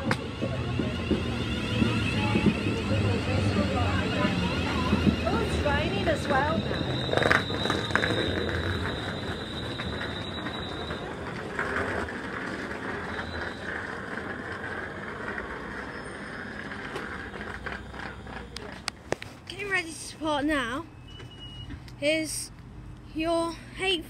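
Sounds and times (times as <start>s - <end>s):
electric train slowing: 0.0s - 20.1s, 20.9s - 21.8s.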